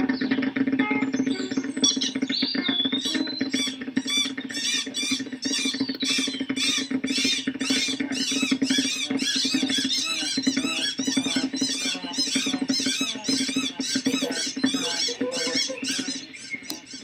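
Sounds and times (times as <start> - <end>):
cartoon birds chattering: 0.0 - 17.0.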